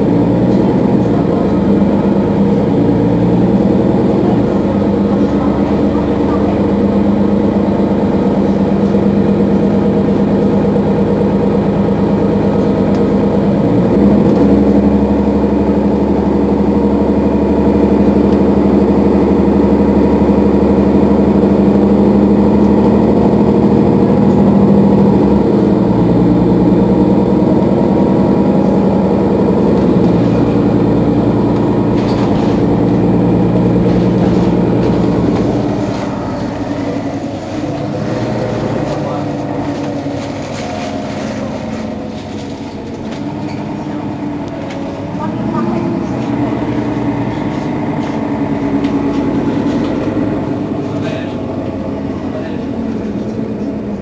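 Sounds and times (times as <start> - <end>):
bus engine idling: 0.0 - 54.0.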